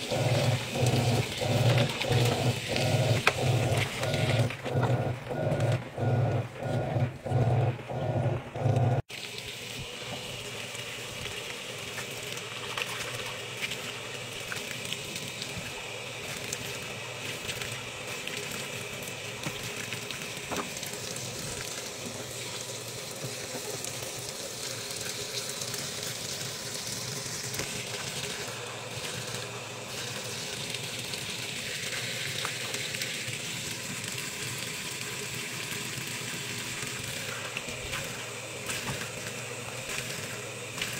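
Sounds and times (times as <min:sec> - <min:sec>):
washing machine agitating hum: 0:00.0 - 0:40.9
water spraying into washing machine: 0:00.0 - 0:40.9.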